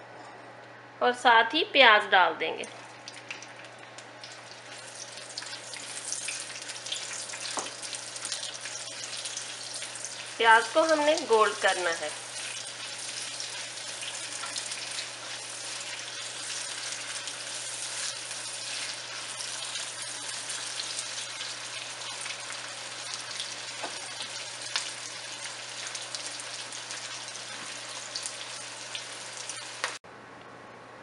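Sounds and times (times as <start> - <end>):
oil popping and crackling: 2.8 - 30.0
onions sizzling in hot oil: 4.2 - 30.0.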